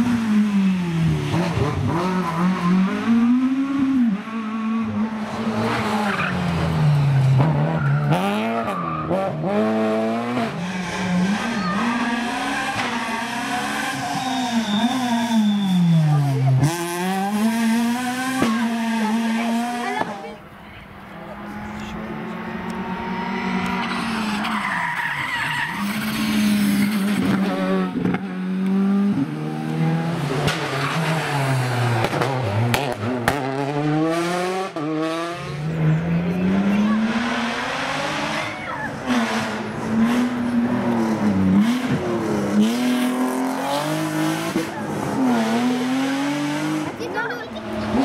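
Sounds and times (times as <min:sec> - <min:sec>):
rally car engines revving: 0:00.0 - 0:48.0.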